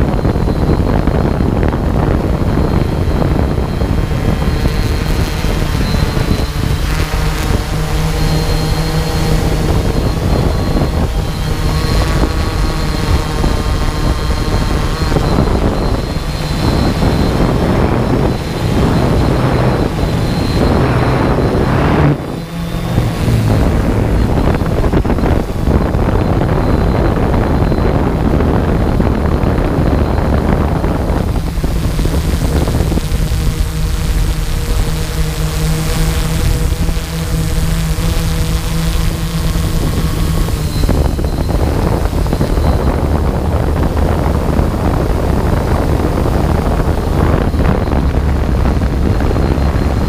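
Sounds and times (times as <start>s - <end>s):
model aircraft motor and propeller: 0.0s - 50.0s
wind noise on microphone: 0.0s - 50.0s.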